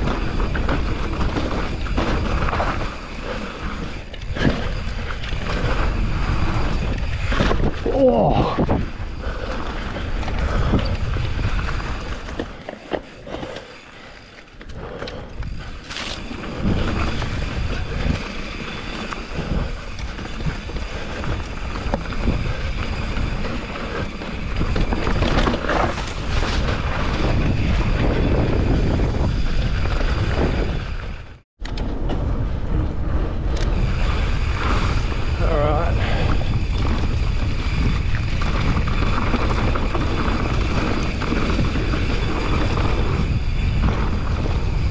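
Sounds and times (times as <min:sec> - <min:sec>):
wind buffeting microphone: 0:00.0 - 0:13.2, 0:14.7 - 0:44.9
bike knocking and clacking: 0:00.0 - 0:44.9
bike tyre noise on dirt: 0:00.0 - 0:44.9.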